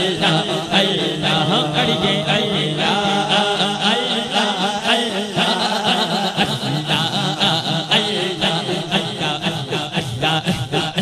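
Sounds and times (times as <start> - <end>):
humming backing voices: 0.0 - 11.0
man singing into a microphone: 0.0 - 11.0.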